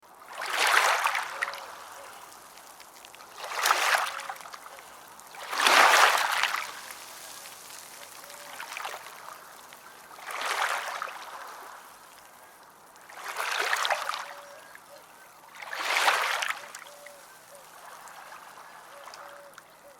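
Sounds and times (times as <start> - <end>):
water rushing in surges: 0.0 - 19.9
water trickling: 0.1 - 19.9.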